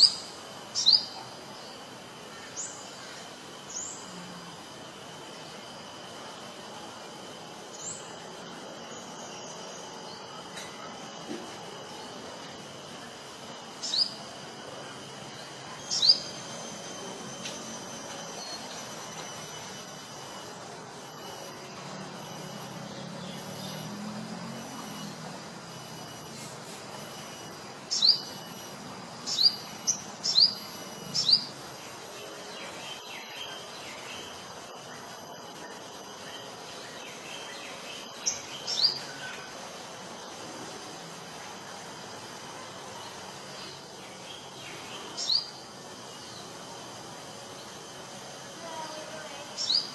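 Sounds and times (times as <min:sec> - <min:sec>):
high insect drone: 0:00.0 - 0:49.9
steady background hiss: 0:00.0 - 0:49.9.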